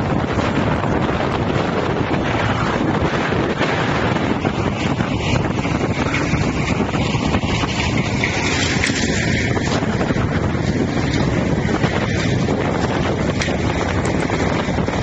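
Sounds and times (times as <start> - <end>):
grinder machine grinding wood: 0.0 - 15.0.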